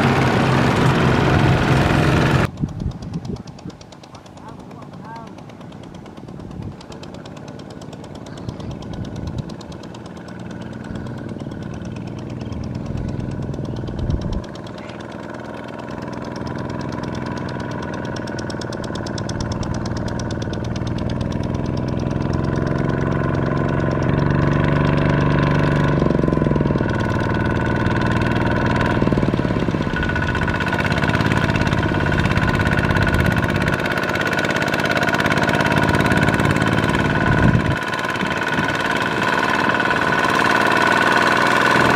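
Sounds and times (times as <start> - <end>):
diesel tractor engine chugging: 0.0 - 41.9.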